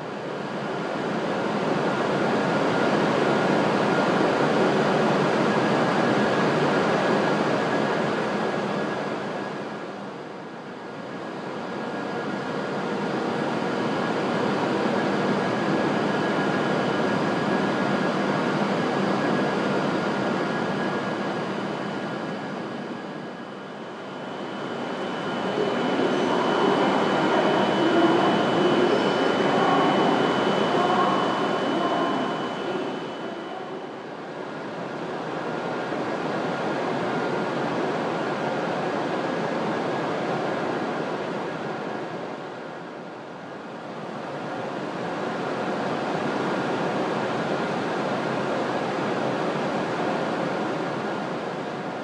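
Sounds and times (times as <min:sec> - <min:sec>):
high-speed train running noise: 0:00.0 - 0:52.0
steady high whine: 0:00.0 - 0:52.0.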